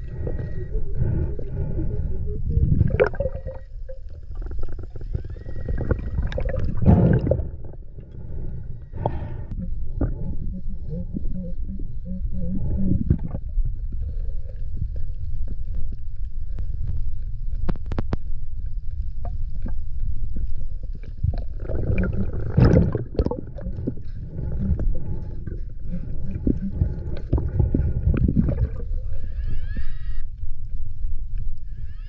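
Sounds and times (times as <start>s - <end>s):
underwater water swishing: 0.0s - 31.8s.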